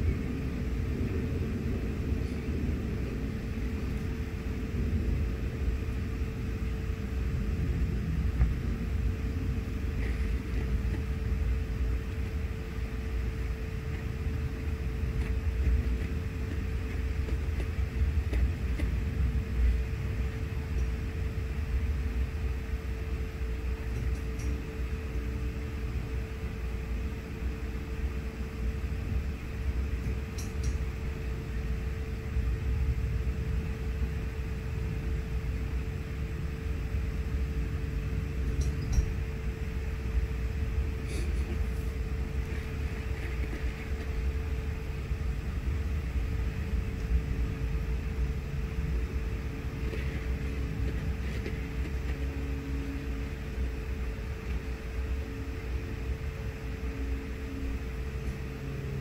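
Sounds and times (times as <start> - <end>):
low mechanical rumble: 0.0 - 59.0
mid-pitched hum: 0.0 - 59.0.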